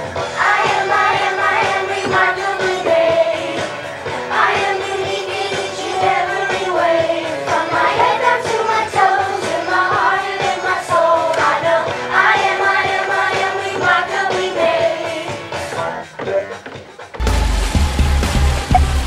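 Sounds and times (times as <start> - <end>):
group singing children's song: 0.0 - 16.0.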